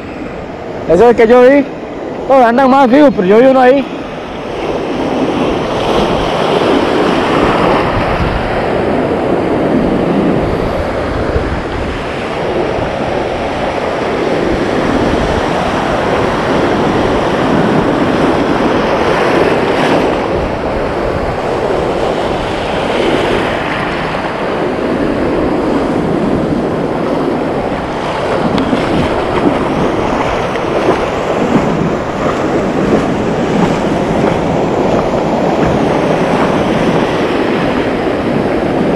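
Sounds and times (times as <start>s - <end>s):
ocean surf breaking: 0.0s - 38.9s
wind rumbling on microphone: 0.0s - 38.9s.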